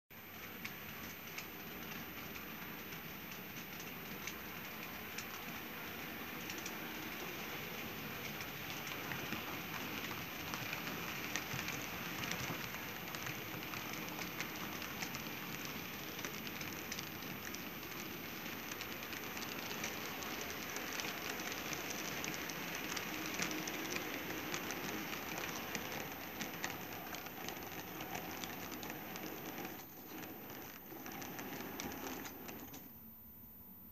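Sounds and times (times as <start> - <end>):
model train wheels rattling on rails: 0.3 - 32.9.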